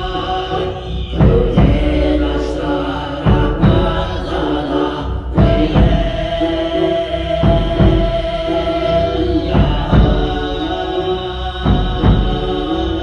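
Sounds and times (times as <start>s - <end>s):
bowed fiddle: 0.0s - 13.0s
frame drum beats: 0.0s - 13.0s
throat singing: 0.0s - 13.0s.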